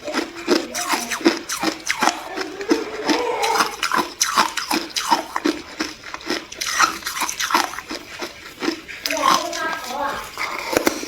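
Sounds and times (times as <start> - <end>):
ice being chewed: 0.0 - 11.0.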